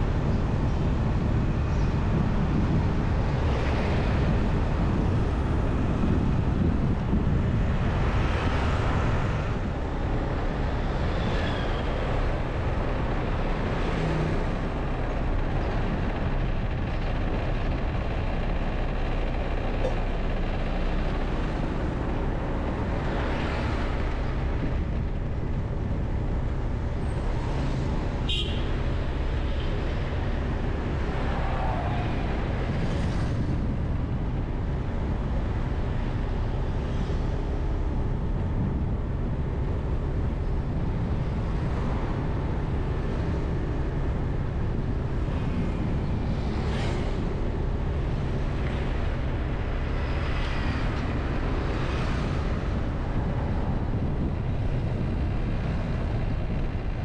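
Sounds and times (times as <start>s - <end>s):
road and traffic noise: 0.0s - 57.0s
vehicles passing: 0.0s - 57.0s.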